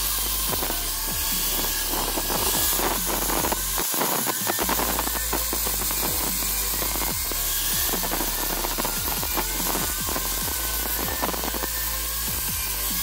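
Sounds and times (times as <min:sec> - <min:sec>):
angle grinder grinding steel: 0:00.0 - 0:13.0
background music with a beat: 0:00.0 - 0:13.0.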